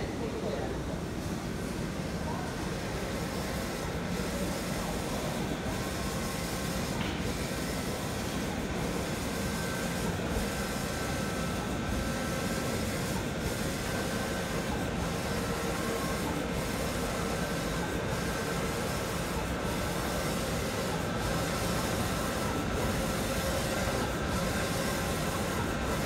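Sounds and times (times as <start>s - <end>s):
printer whirring: 0.0s - 26.0s.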